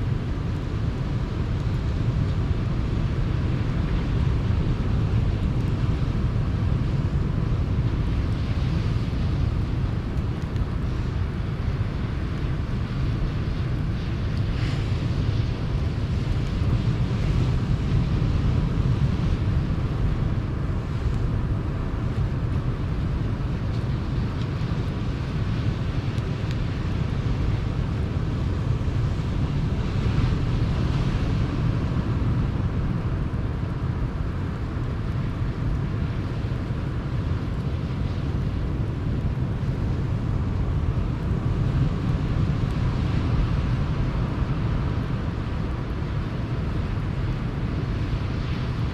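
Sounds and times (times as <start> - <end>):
ocean surf rumbling: 0.0 - 48.9.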